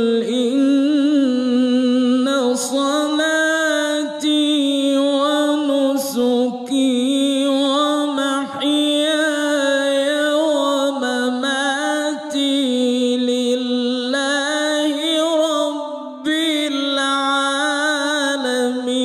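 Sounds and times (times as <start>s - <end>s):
man chanting into a microphone: 0.0s - 19.0s.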